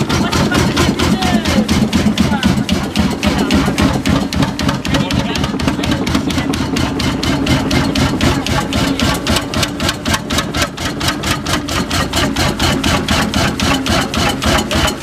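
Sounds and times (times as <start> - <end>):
old engine running: 0.0 - 15.0.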